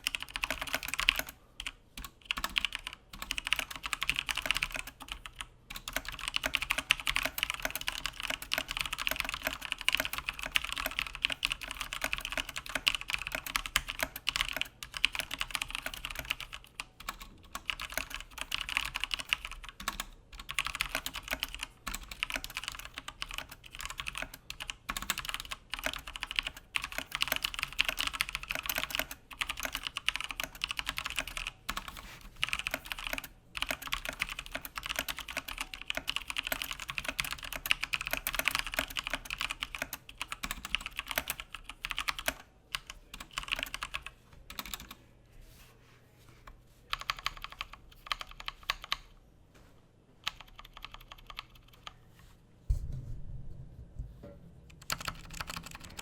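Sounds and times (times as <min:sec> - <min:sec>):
mechanical keyboard typing: 0:00.0 - 0:45.0, 0:46.9 - 0:49.1, 0:50.2 - 0:52.0, 0:54.7 - 0:56.0.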